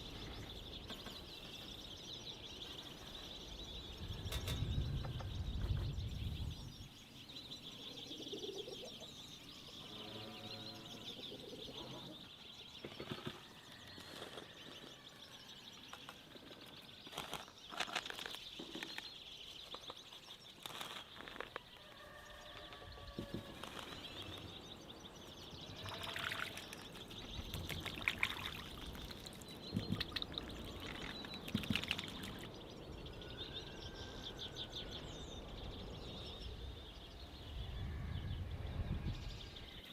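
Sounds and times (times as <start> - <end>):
birds chirping: 0.0 - 39.9
low bird calls: 0.0 - 39.9.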